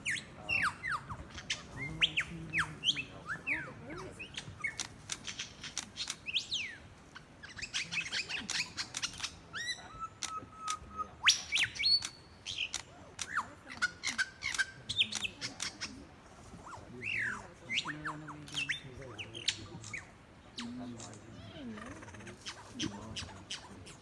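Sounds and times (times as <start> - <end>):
lyrebird singing: 0.0 - 24.0.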